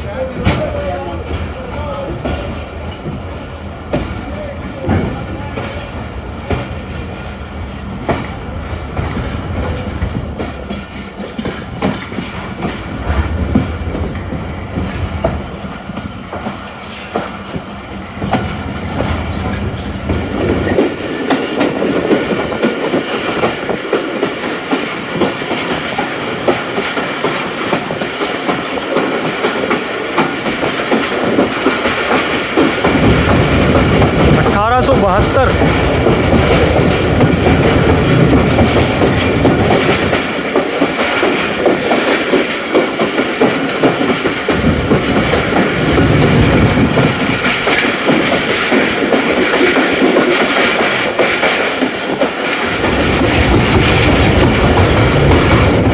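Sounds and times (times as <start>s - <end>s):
harsh train rattle: 0.0s - 55.9s
train running rumble: 0.0s - 55.9s
train wheels clicking over rail joints: 0.0s - 55.9s.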